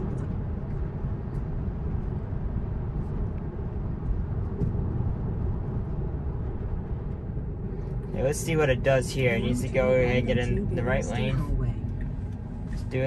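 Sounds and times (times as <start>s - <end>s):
road and tyre noise in car cabin: 0.0s - 13.0s.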